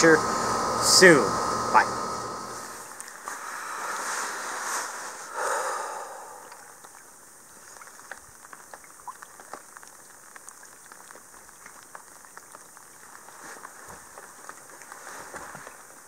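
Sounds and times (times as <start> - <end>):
rain falling on a lake: 2.8 - 16.0.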